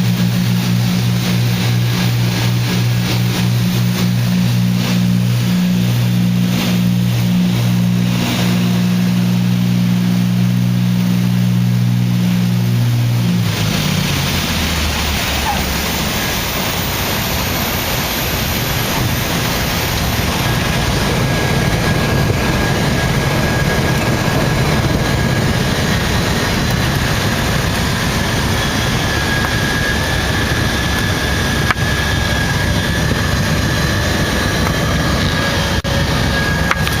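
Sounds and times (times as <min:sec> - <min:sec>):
piston aircraft engines: 0:00.0 - 0:37.0
rush of noise: 0:00.0 - 0:37.0.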